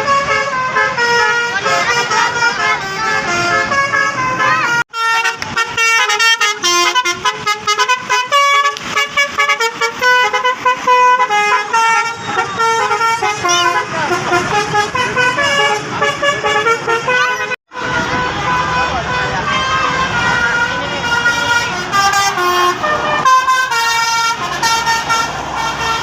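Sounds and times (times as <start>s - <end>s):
multi-tone bus air horn: 0.0s - 26.0s.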